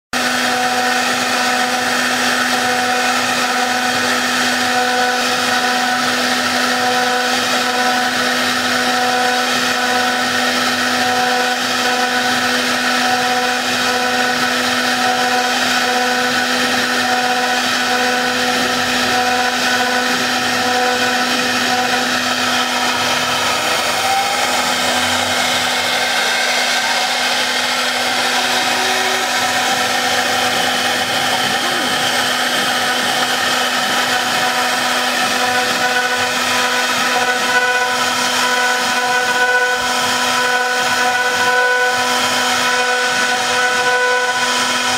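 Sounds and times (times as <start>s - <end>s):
router spindle whining: 0.1s - 44.9s.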